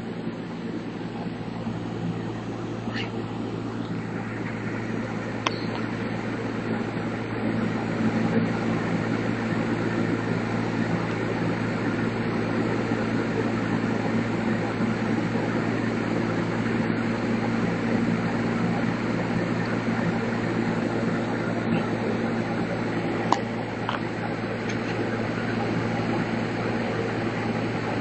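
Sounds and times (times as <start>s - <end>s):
air cooler rushing air: 0.0s - 28.0s
low motor hum: 0.0s - 28.0s.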